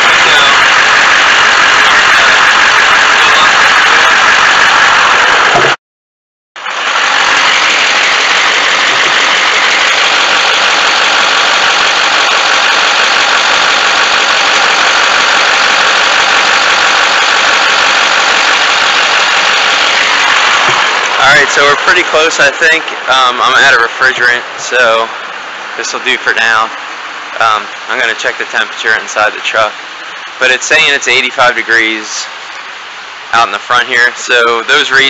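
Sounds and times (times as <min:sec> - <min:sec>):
ac compressor running: 0:00.0 - 0:05.8, 0:06.6 - 0:35.0
diesel engine idling: 0:00.0 - 0:05.8, 0:06.6 - 0:34.5.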